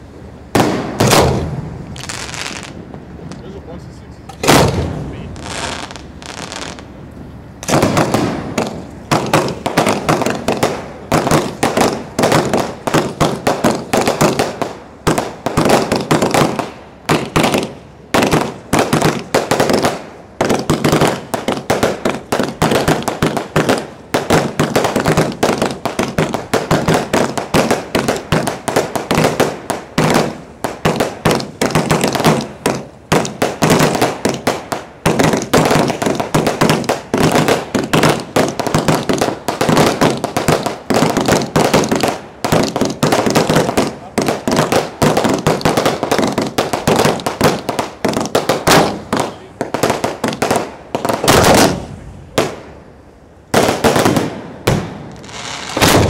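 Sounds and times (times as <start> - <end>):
fireworks bangs and booms: 0.0 - 6.9, 7.6 - 52.9, 53.5 - 56.0.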